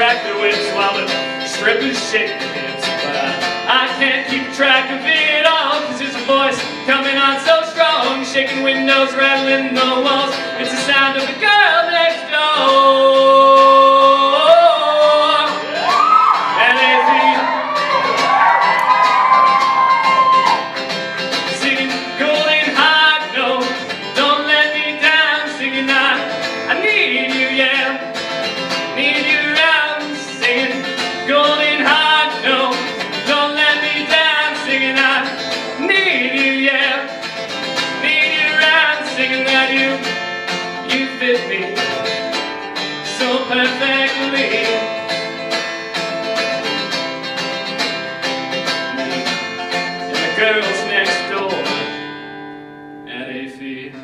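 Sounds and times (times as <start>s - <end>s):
person singing: 0.0s - 20.6s, 21.4s - 28.2s, 28.9s - 37.2s, 37.8s - 42.4s, 43.1s - 45.1s, 50.0s - 51.9s
acoustic guitar: 0.0s - 54.0s.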